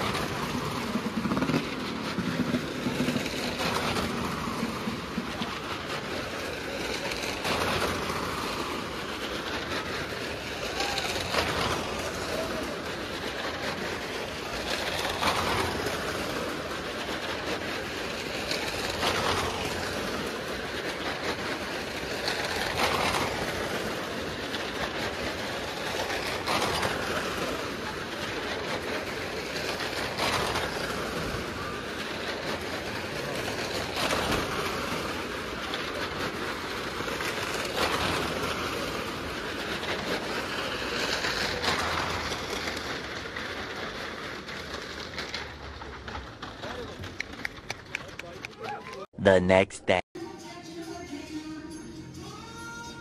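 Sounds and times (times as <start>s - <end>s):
wooden planks rumbling: 0.0s - 48.8s.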